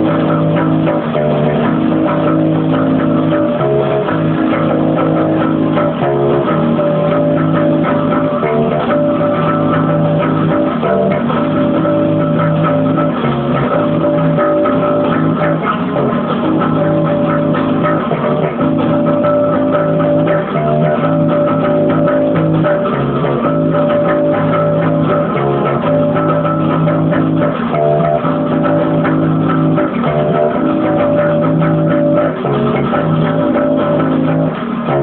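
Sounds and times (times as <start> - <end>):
electric bass guitar line: 0.0 - 35.0
rock music with guitar: 0.0 - 35.0.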